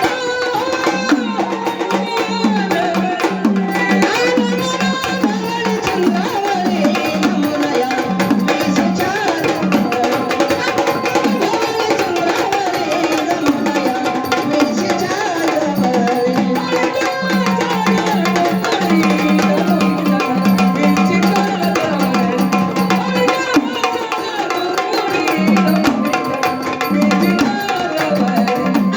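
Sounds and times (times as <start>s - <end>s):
drums beating fast rhythm: 0.0s - 28.9s.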